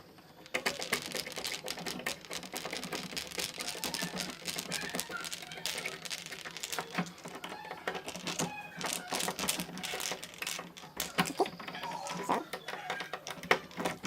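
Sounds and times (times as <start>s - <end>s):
metallic clicking and rattling of lock parts: 0.4s - 14.0s.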